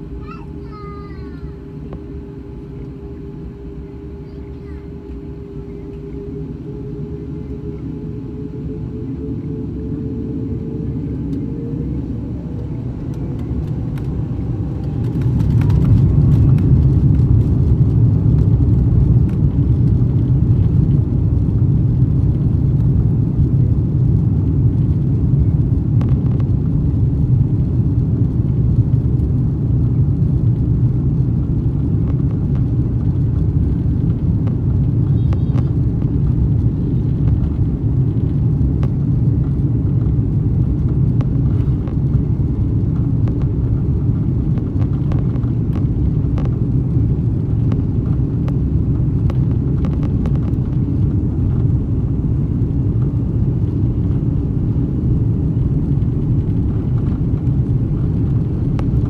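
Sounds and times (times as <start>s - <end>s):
jet engines rising whine: 0.0s - 59.0s
loud low engine roar: 0.0s - 59.0s.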